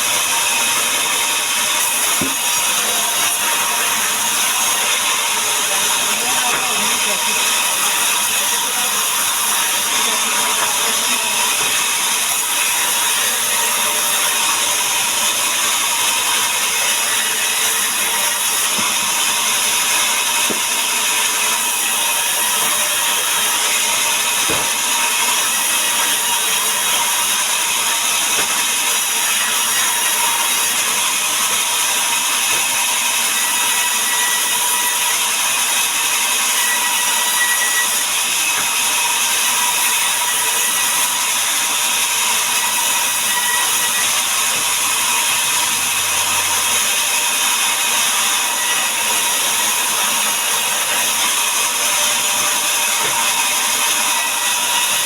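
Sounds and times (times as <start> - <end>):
power saw cutting timber: 0.0 - 55.0.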